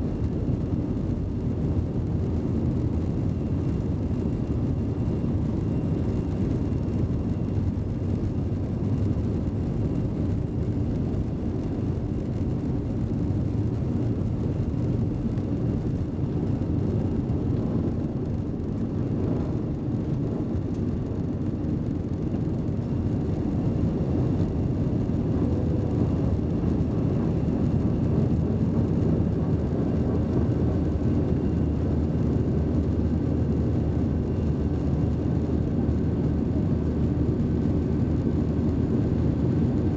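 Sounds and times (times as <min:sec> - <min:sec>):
jet engines roaring in cabin: 0:00.0 - 0:39.9.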